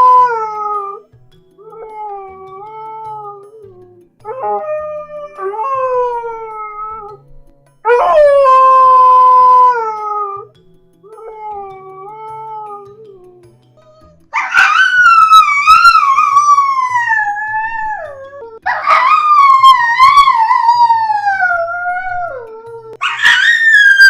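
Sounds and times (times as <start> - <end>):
dog whining howls: 0.0 - 1.0, 1.6 - 7.2, 7.8 - 10.5, 11.1 - 13.4, 14.4 - 24.0.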